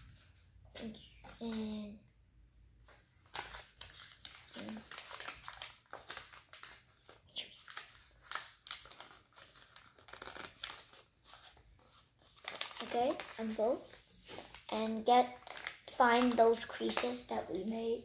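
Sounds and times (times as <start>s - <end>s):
paper crinkling as folded: 3.2s - 18.0s.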